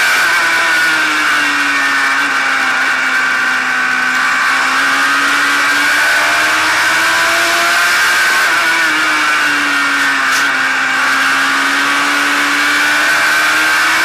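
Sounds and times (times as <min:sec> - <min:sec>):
race car engine: 0:00.0 - 0:14.0.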